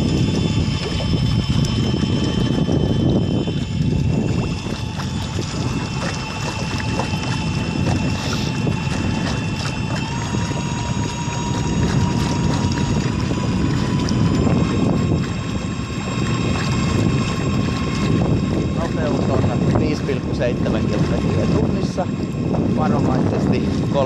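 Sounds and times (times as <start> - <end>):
outboard motor whining: 0.0 - 24.0
wind and water rushing: 0.0 - 24.0.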